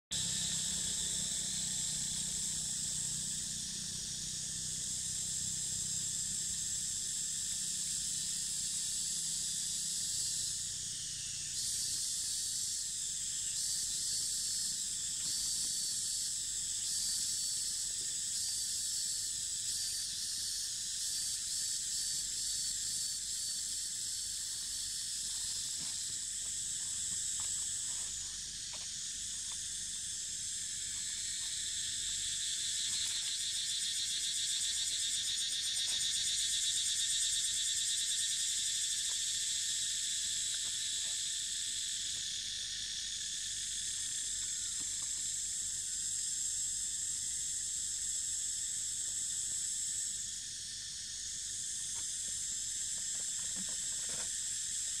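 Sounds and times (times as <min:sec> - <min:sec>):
insects buzzing: 0:00.1 - 0:55.0.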